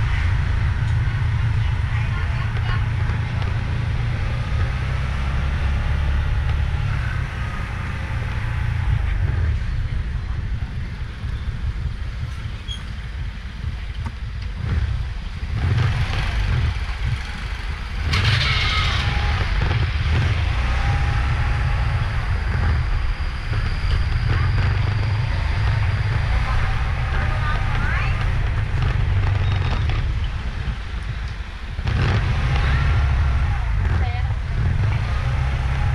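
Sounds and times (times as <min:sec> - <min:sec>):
motorbike engine and road noise: 0:00.0 - 0:35.9
road traffic: 0:00.0 - 0:35.9.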